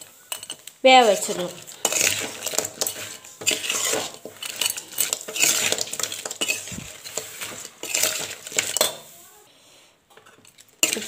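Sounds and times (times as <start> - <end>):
ladle scraping metal pan: 0.0 - 9.2, 10.8 - 11.0.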